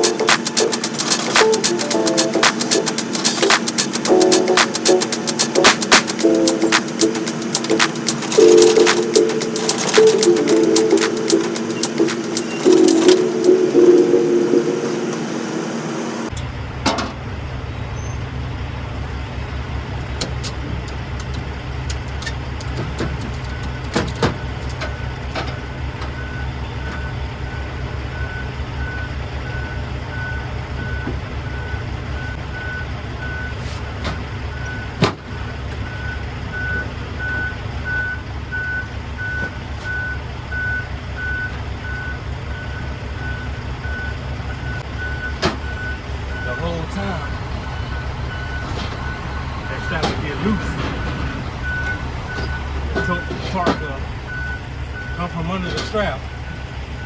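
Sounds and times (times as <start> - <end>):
reversing alarm beeping: 0.0 - 16.3, 23.4 - 33.6, 34.5 - 57.0
vehicle engine idling: 0.0 - 57.0.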